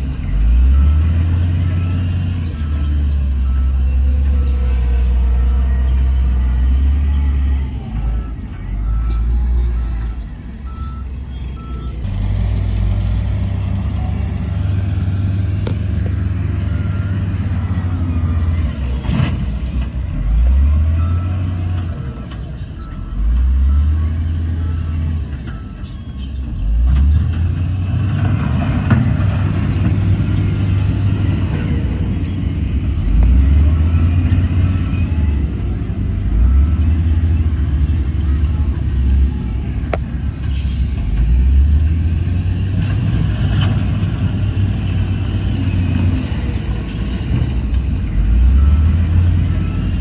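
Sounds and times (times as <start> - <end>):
reversing alarm beeping: 0.0 - 12.1, 13.8 - 26.8, 30.0 - 42.6, 43.9 - 50.0
diesel machinery engine revving: 0.0 - 50.0.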